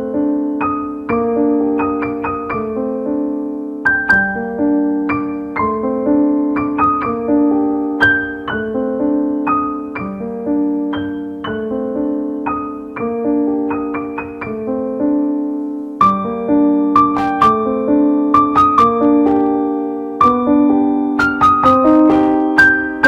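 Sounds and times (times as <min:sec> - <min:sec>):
slow piano melody: 0:00.0 - 0:23.0.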